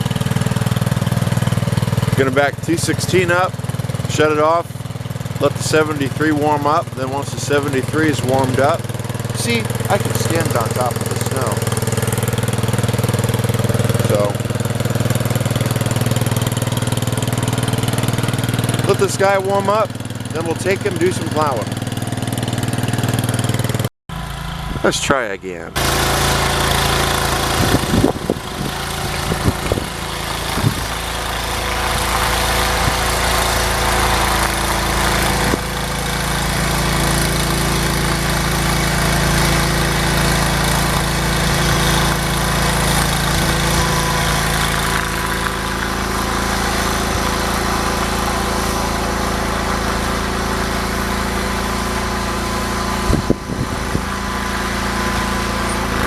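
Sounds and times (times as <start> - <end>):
small tractor engine running: 0.0 - 56.0.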